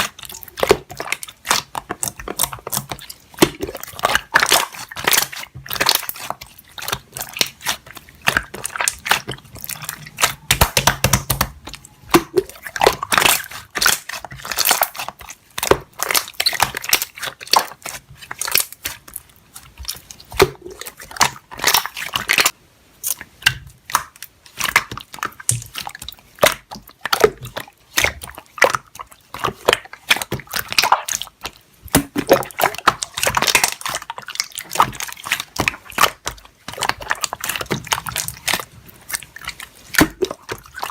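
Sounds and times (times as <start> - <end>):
slime squished by hand: 0.0 - 40.9.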